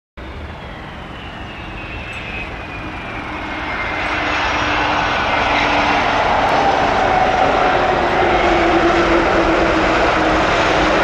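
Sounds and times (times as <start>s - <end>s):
high whining tones: 0.2s - 10.6s
jet engines roaring: 0.2s - 11.0s.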